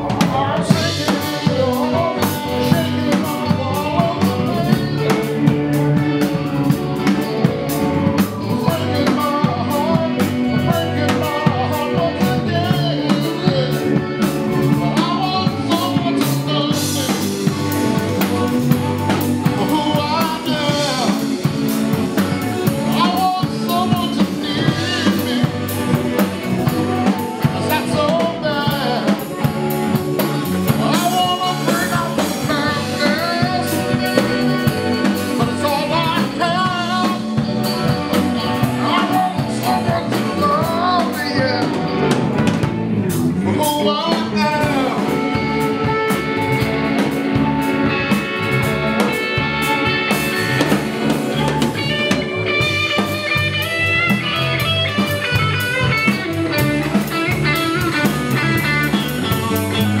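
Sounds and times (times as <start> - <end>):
drum kit: 0.0 - 60.0
electric guitar: 0.0 - 60.0
keyboard: 0.0 - 60.0.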